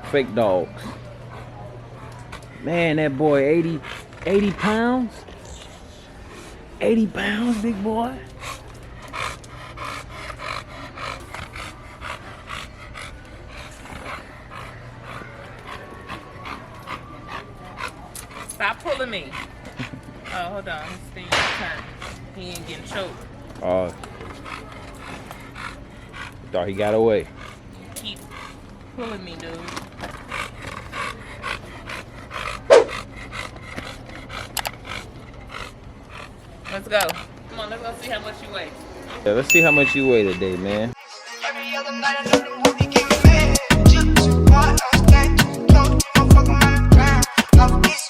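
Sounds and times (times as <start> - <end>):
dog panting: 0.0 - 48.0.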